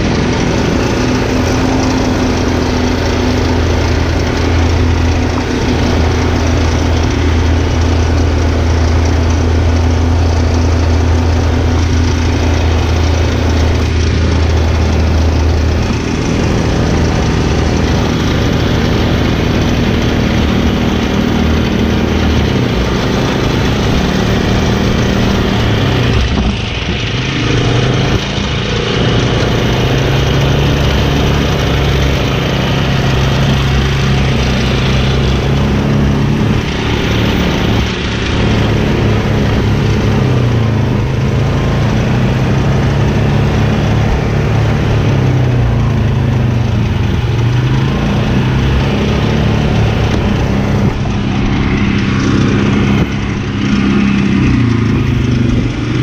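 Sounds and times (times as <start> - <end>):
mower engine drone: 0.0 - 56.0.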